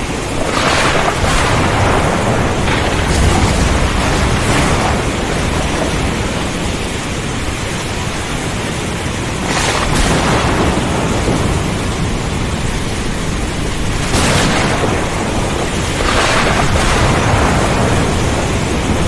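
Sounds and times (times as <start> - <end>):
heavy rain and wind hiss: 0.0 - 19.0
low rumble of thunder: 0.0 - 19.0.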